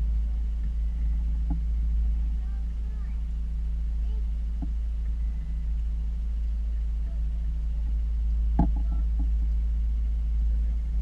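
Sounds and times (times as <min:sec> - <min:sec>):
boat engine low drone: 0:00.0 - 0:11.0.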